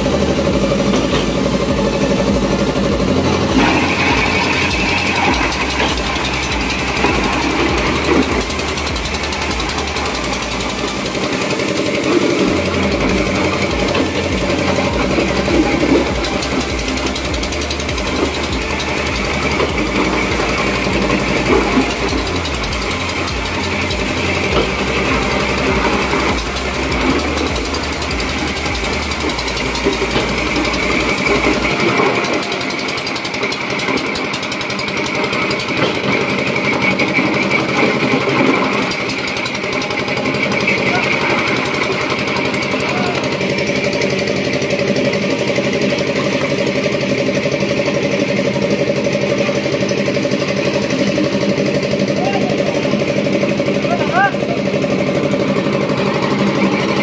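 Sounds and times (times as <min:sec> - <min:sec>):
ice-crushing machine clatter: 0:00.0 - 0:57.0.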